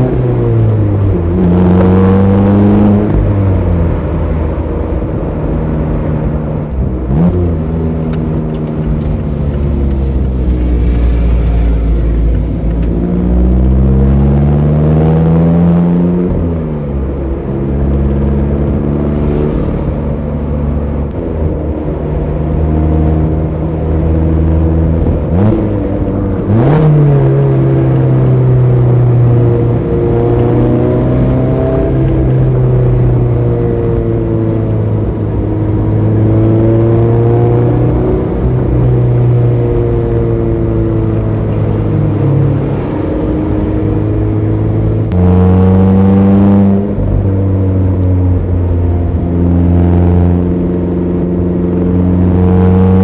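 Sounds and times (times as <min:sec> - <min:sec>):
car engine under load: 0:00.0 - 0:53.0.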